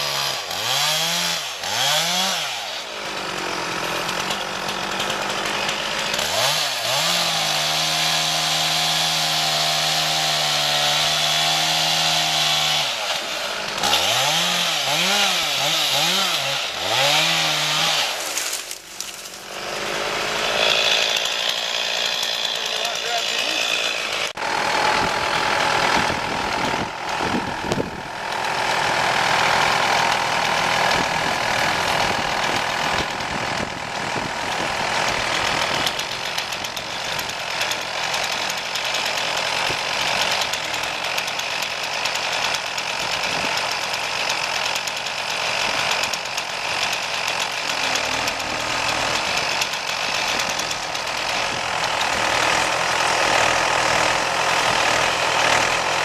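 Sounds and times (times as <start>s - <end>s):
chainsaw running at high revs: 0.0s - 56.0s.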